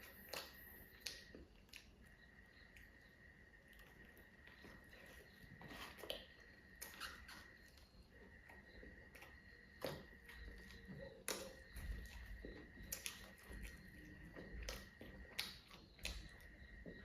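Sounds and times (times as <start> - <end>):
faint chewing: 0.0 - 17.0.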